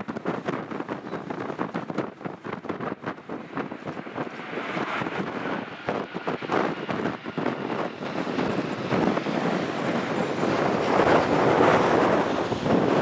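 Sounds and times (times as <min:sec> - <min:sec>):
jet engines on landing rollout: 0:00.0 - 0:13.0
wind buffeting microphone: 0:00.0 - 0:13.0.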